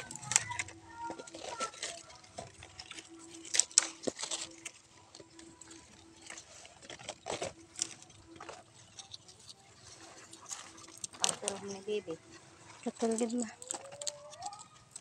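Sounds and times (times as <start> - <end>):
plants rustling and crackling: 0.0 - 15.0.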